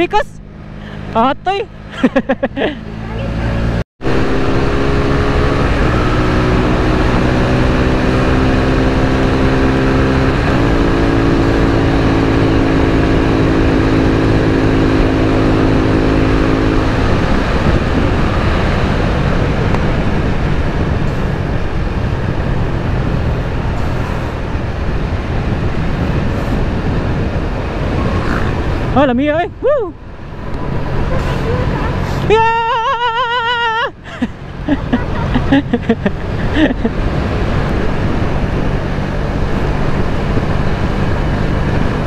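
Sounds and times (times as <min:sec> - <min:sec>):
motorcycle engine accelerating: 0:00.0 - 0:42.0
wind and road noise: 0:00.0 - 0:42.0.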